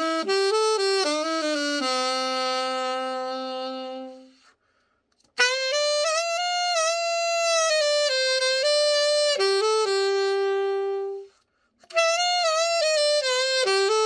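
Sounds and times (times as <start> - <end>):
alto saxophone playing solo: 0.0 - 4.5, 5.4 - 14.0.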